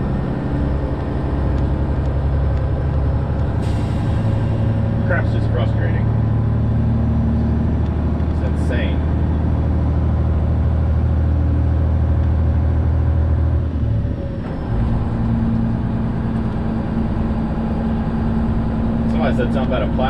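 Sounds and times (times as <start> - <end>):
truck diesel engine droning: 0.0 - 20.0.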